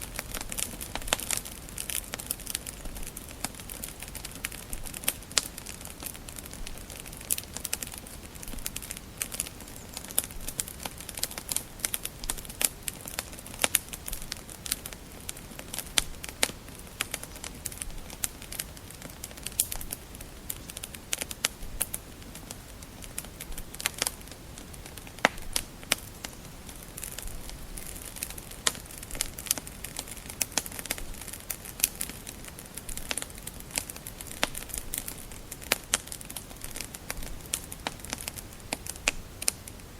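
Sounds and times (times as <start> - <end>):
soft hiss of burning logs: 0.0 - 39.9
wood fire crackling and popping: 0.0 - 39.9.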